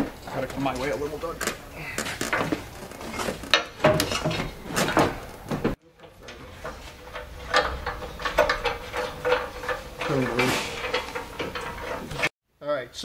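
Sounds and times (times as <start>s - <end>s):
steel bumper clunking and scraping: 0.0s - 12.3s.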